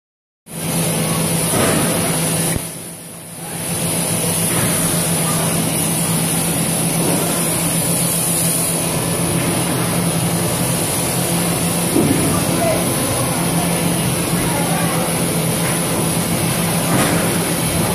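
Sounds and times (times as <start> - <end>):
machine hum with high whine: 0.5 - 17.9.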